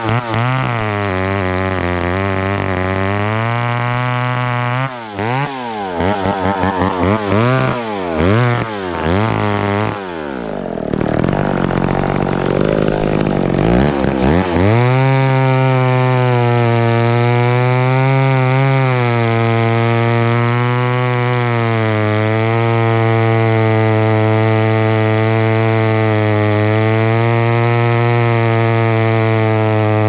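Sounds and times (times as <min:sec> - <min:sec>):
chainsaw revving and cutting wood: 0:00.0 - 0:30.0.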